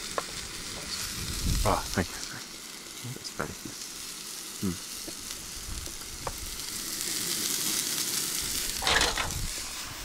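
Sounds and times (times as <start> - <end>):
beef sizzling: 0.0 - 10.0.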